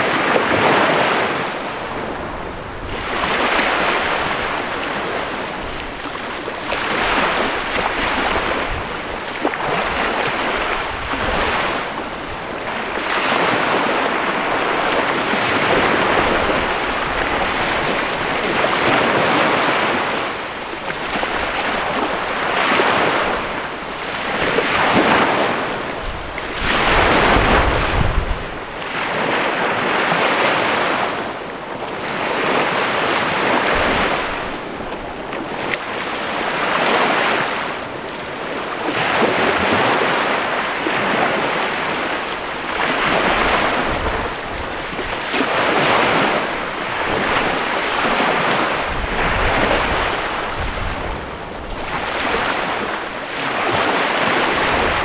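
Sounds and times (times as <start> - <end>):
small waves breaking on beach: 0.0 - 55.0
wind rumble on microphone: 0.0 - 55.0.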